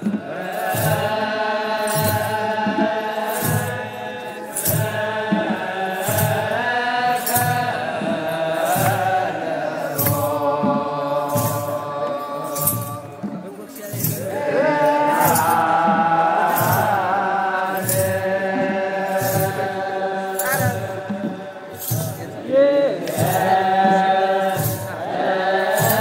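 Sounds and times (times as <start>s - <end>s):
clergy chanting: 0.0s - 26.0s.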